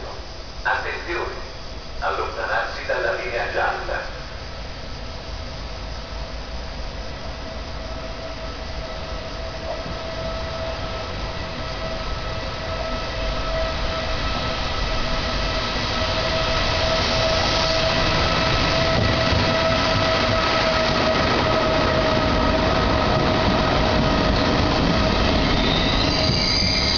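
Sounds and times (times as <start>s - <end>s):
electric locomotive whine: 0.0s - 26.9s
train rumble: 0.0s - 26.9s.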